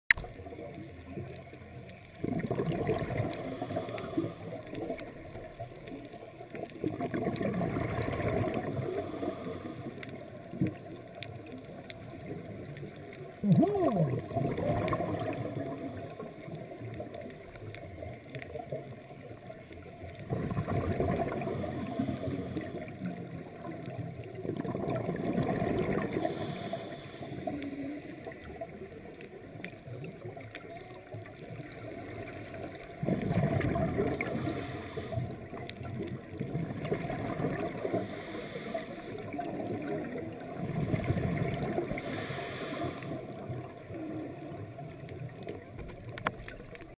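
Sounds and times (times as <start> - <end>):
underwater regulator bubbling: 2.1 - 5.2, 6.5 - 12.6, 13.2 - 17.8, 20.1 - 28.8, 31.7 - 46.9.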